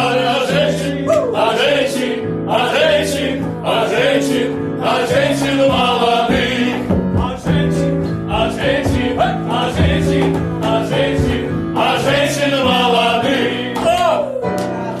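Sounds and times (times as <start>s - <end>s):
instrumental accompaniment: 0.0s - 15.0s
men singing together: 0.0s - 15.0s.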